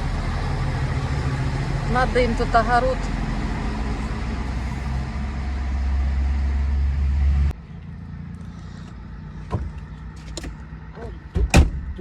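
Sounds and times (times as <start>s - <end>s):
car road and engine rumble: 0.0s - 12.0s
quiet engine hum: 0.0s - 12.0s.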